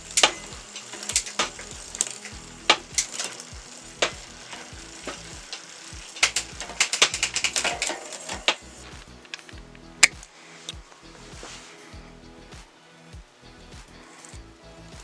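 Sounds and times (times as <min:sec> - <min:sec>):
bicycle wheel clicking: 0:00.0 - 0:15.0.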